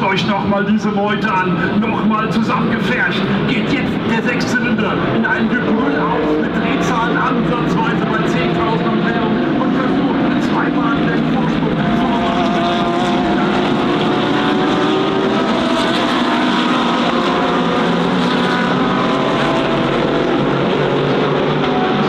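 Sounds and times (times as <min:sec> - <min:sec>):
race cars at high revs: 0:00.0 - 0:22.0.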